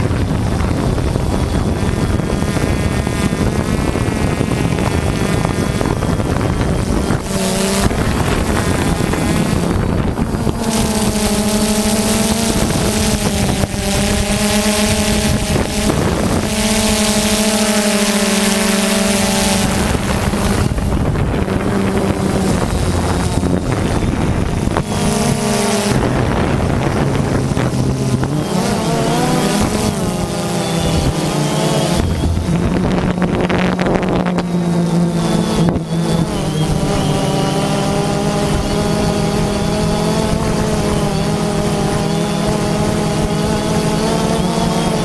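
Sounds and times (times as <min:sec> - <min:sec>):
drone propellers whirring: 0:00.0 - 0:45.0.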